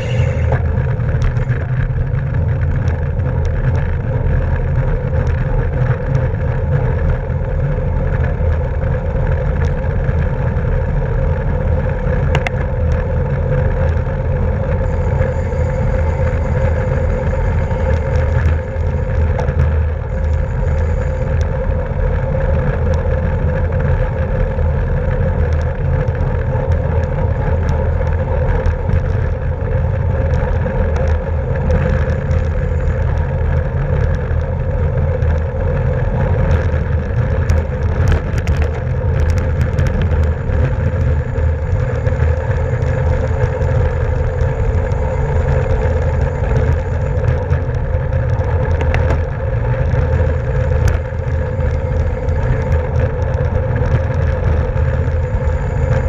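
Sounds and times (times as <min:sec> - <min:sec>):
bicycle road noise: 0:00.0 - 0:56.0
constant hum: 0:00.0 - 0:56.0
wind rumble: 0:00.0 - 0:56.0.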